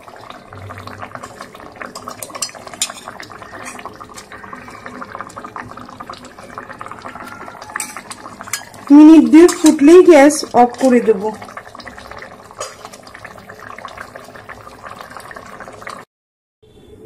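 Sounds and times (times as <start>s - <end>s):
curry bubbling in a pot: 0.0s - 16.1s.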